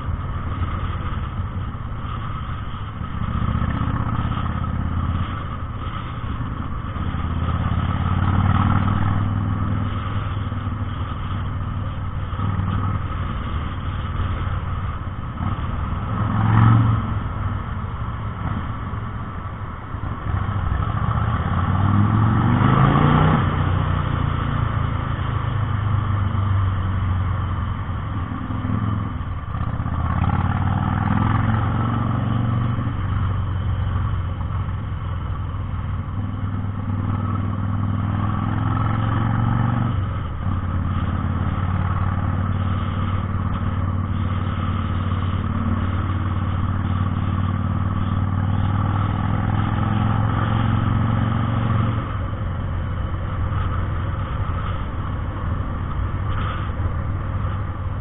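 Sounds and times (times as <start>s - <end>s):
motorcycle engine revving: 0.0s - 19.0s, 20.3s - 58.0s.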